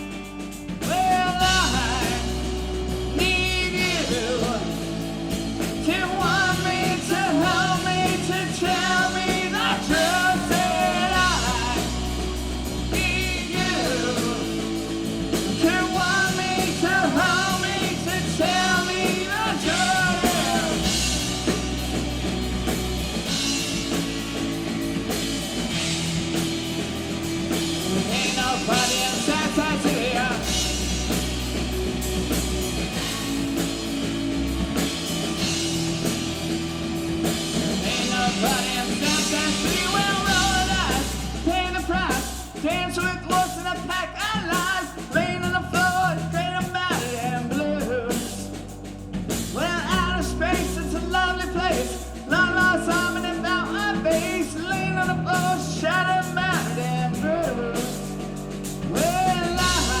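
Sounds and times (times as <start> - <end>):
bass and drums groove: 0.0 - 60.0.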